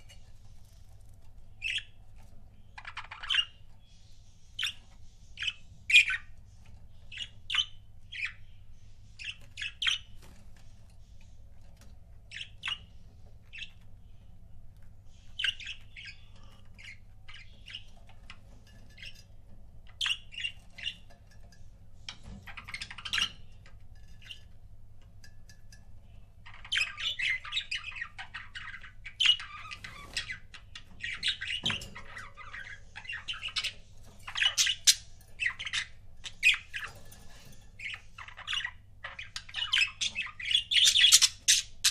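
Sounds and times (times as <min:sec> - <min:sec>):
budgerigars chirping: 0:01.5 - 0:10.4, 0:12.3 - 0:14.3, 0:15.1 - 0:19.3, 0:19.9 - 0:21.1, 0:22.1 - 0:24.3, 0:26.4 - 0:41.9.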